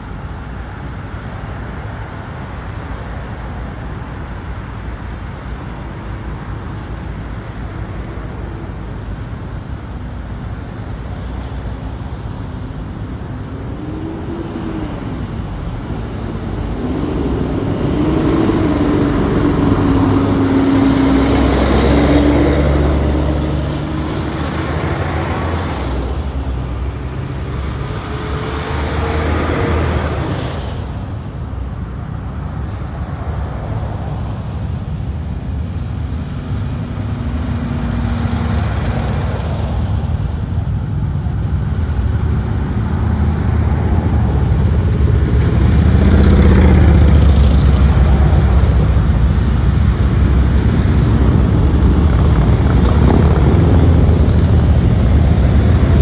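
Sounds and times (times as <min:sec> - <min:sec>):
cars passing: 0:00.0 - 0:56.0
motorcycle engines: 0:00.0 - 0:56.0
fire engine passing: 0:05.0 - 0:56.0.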